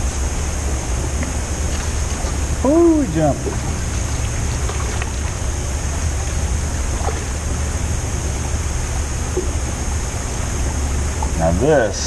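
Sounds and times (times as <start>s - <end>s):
water and wind around boat: 0.0s - 12.0s.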